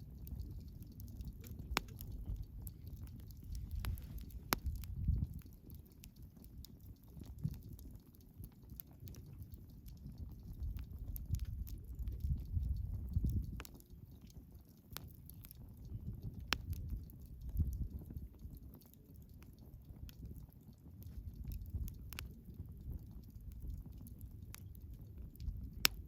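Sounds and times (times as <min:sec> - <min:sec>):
campfire crackling and popping: 0:00.0 - 0:26.0
fire low rumble: 0:00.0 - 0:26.0.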